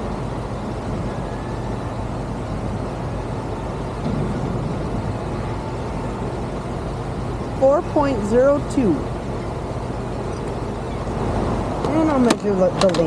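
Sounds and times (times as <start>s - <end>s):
low hum: 0.0s - 12.2s
city traffic rumble: 0.0s - 13.0s.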